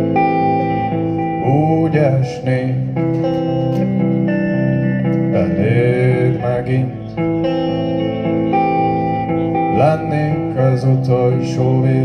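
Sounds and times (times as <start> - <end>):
guitar chords: 0.0 - 12.0
person singing: 0.3 - 12.0.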